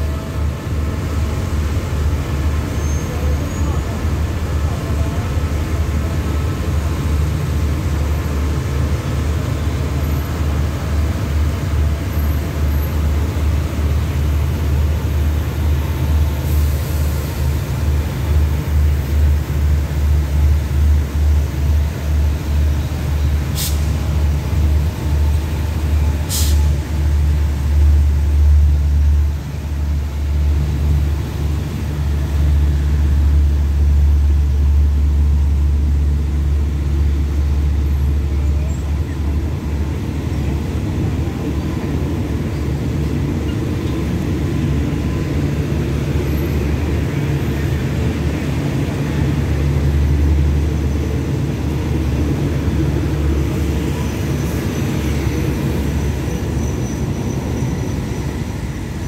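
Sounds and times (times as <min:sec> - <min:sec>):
diesel train rumbling: 0:00.0 - 0:59.0.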